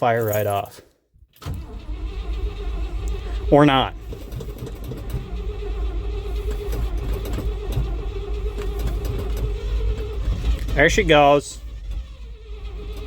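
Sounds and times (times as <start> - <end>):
engine cranking by starter: 1.3 - 13.0.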